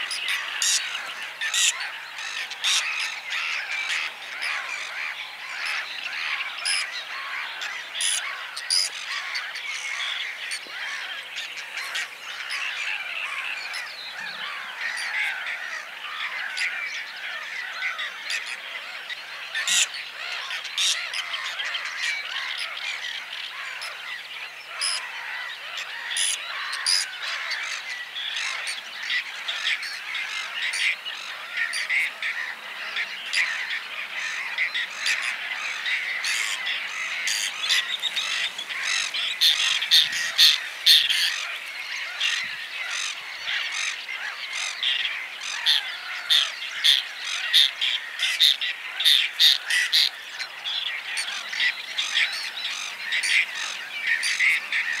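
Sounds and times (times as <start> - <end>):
dense bird chorus: 0.0 - 55.0
terns calling: 0.0 - 55.0.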